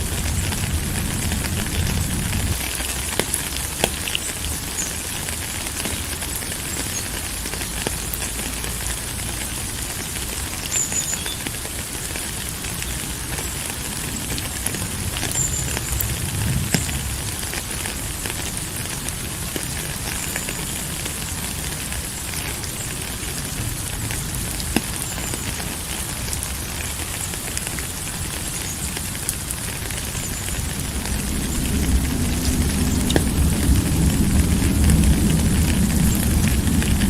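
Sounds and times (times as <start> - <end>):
raindrops ticking: 0.0 - 37.0
steady rain: 0.0 - 37.0.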